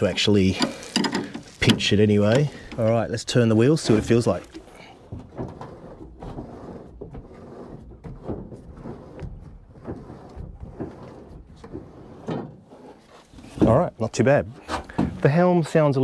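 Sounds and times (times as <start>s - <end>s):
steering helm grinding and scraping: 0.0s - 15.8s.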